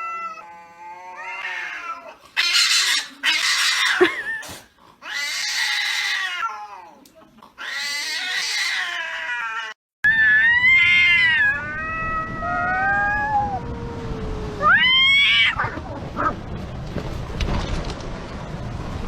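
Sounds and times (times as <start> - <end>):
cats yowling: 0.0 - 7.0, 7.6 - 16.4.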